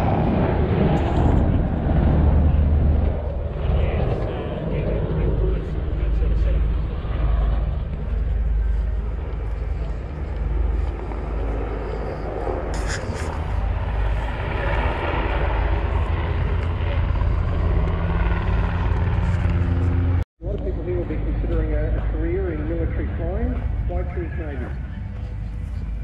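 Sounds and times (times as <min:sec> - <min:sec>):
aircraft engine drone: 0:00.0 - 0:26.0.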